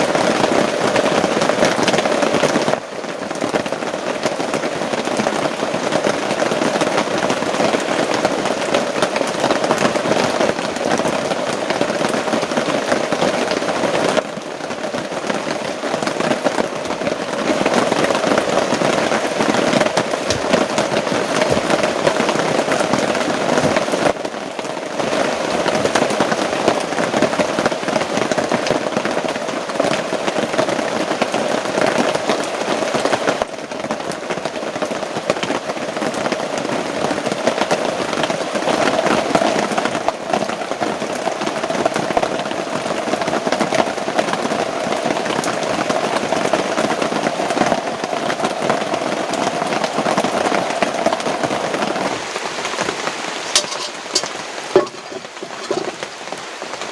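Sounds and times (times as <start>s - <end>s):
heavy rain: 0.0s - 56.9s.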